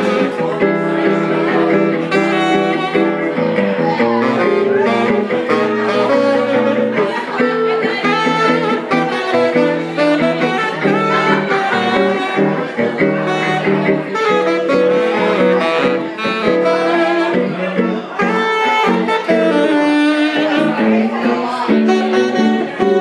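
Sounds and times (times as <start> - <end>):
jazz guitar: 0.0 - 23.0
saxophone melody: 0.0 - 23.0.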